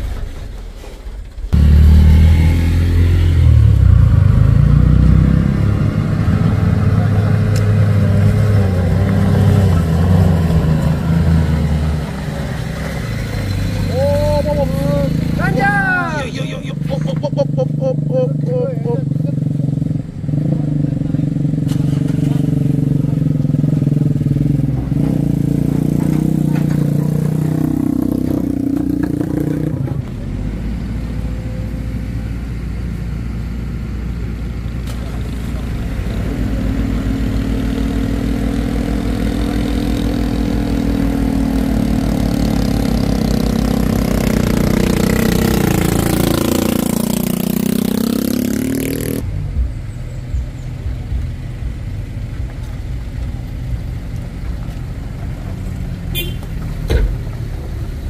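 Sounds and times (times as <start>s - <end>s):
truck diesel engine under load: 0.0s - 58.0s.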